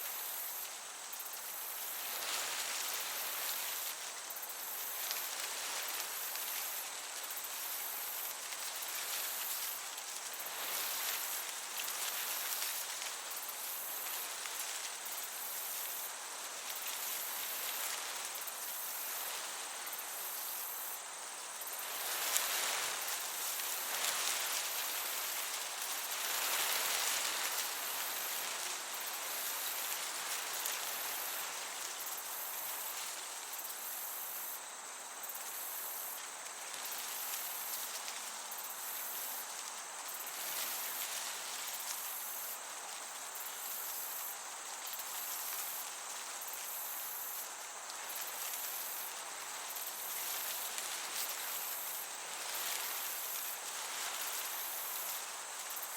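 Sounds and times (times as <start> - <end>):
crickets chirping: 0.0 - 55.9
soft breeze hiss: 0.0 - 55.9.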